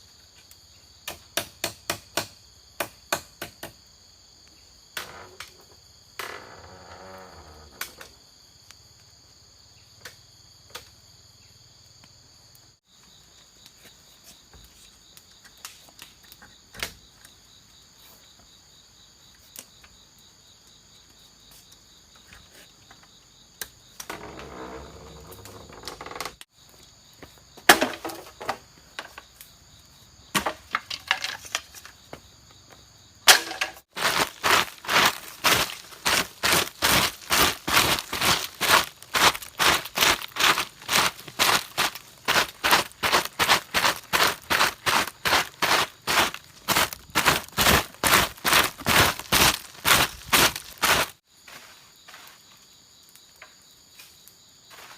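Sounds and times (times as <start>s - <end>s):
insect chorus: 0.0s - 54.9s.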